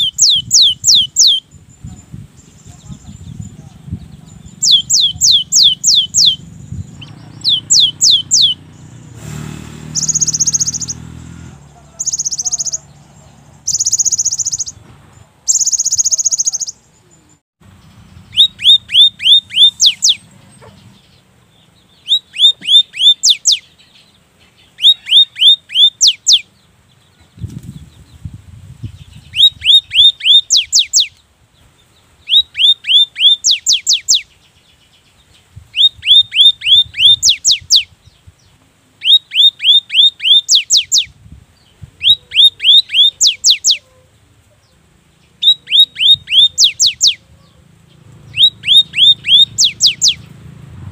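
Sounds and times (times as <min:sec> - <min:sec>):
bird whistling song: 0:00.0 - 0:09.2, 0:09.9 - 0:11.0, 0:11.9 - 0:13.0, 0:13.6 - 0:14.8, 0:15.5 - 0:26.6, 0:27.2 - 0:31.2, 0:31.8 - 0:44.0, 0:45.2 - 0:50.4.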